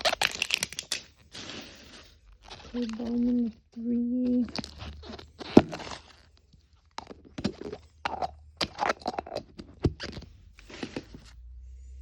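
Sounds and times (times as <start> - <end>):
plastic packaging crinkling: 0.0 - 3.6, 4.2 - 11.3.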